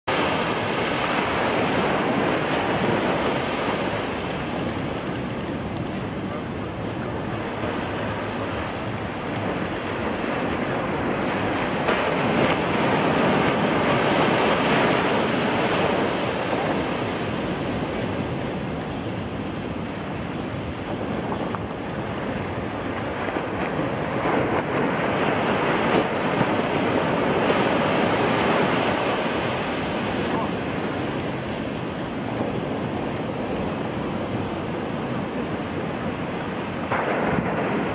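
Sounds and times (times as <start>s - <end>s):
sea surf breaking on shore: 0.0s - 37.9s
wind buffeting microphone: 0.1s - 37.9s.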